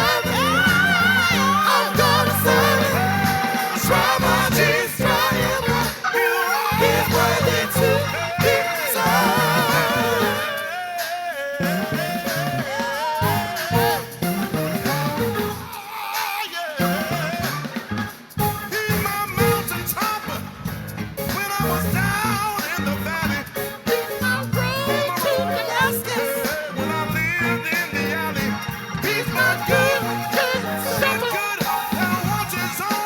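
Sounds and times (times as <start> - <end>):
singers singing: 0.0 - 18.3, 21.3 - 33.0
gospel band with drums: 0.0 - 33.0.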